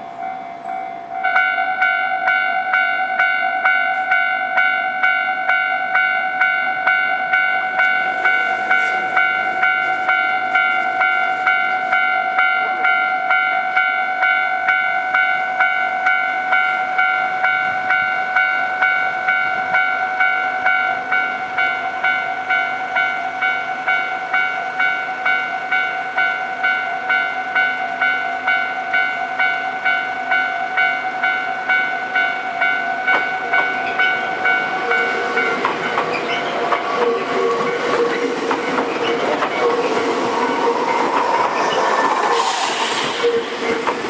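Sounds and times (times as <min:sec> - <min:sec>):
level crossing alarm bell: 0:00.0 - 0:42.0.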